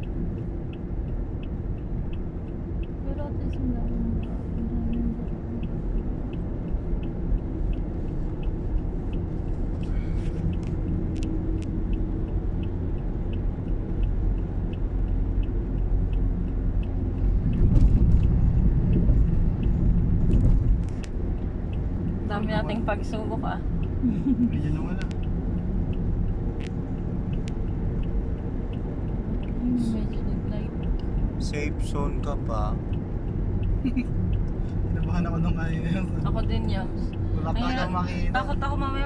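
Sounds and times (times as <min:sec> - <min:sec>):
small steady ticking: 0:00.0 - 0:37.4
car cabin engine and tyre rumble: 0:00.0 - 0:39.0.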